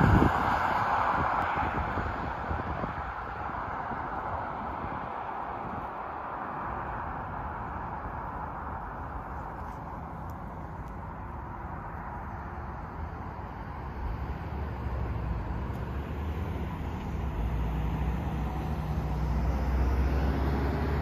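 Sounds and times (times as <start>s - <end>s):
car passing close: 0.0s - 21.0s
road traffic hum: 0.0s - 21.0s.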